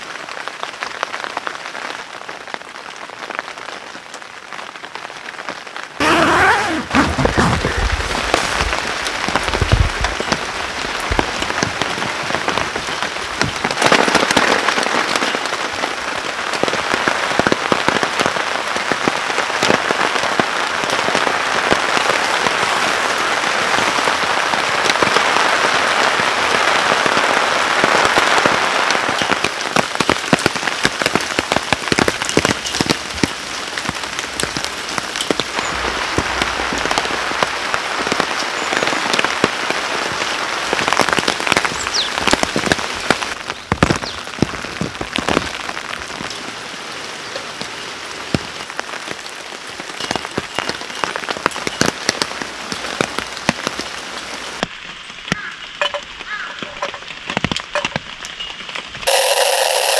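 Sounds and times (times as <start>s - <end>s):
heavy rain on tarp: 0.0s - 59.9s
sharp raindrop hits: 0.0s - 59.9s.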